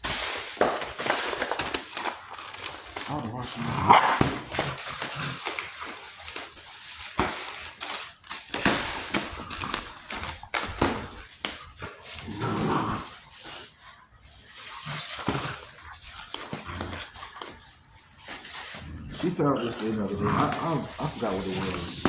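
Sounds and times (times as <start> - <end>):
puppy tussling with a package: 0.0 - 22.0.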